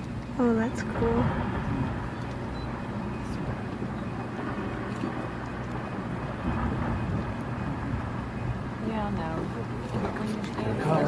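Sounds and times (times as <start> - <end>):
low engine hum: 0.0 - 11.0
outdoor noise: 0.0 - 11.0.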